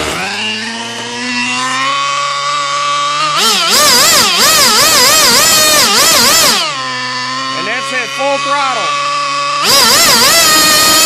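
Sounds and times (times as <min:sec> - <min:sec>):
model engine high whine: 0:00.0 - 0:11.0.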